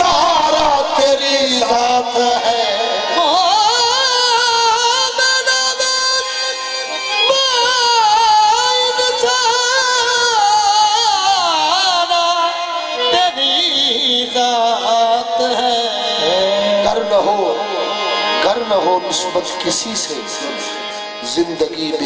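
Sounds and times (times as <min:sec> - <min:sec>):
harmoniums playing chords: 0:00.0 - 0:22.0.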